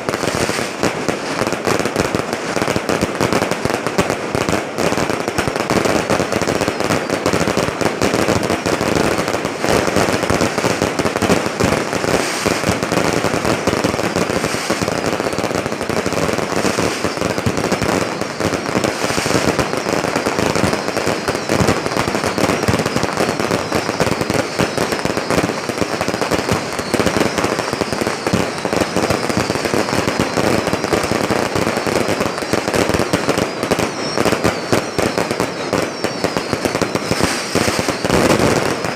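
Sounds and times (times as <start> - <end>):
fireworks crackling bangs: 0.0 - 38.9.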